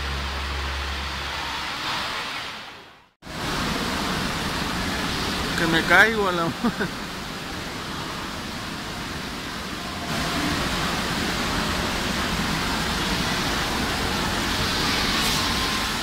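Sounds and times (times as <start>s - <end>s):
fountain water rushing: 0.0s - 16.0s.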